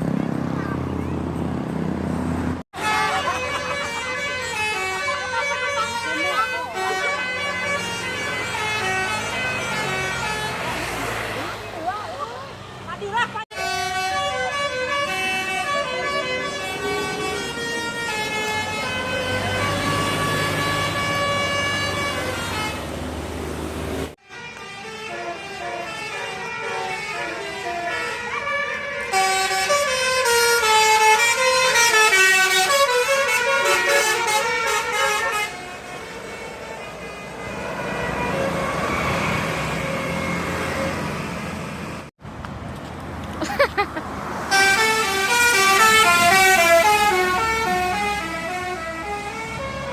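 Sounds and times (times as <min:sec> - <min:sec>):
multi-tone bus horn melody: 0:02.7 - 0:12.0, 0:13.0 - 0:42.1, 0:44.4 - 0:49.9.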